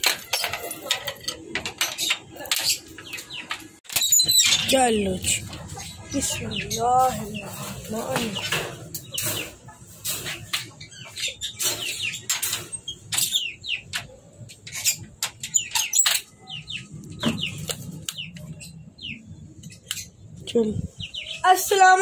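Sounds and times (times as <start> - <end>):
lovebirds chirping: 0.0 - 22.0.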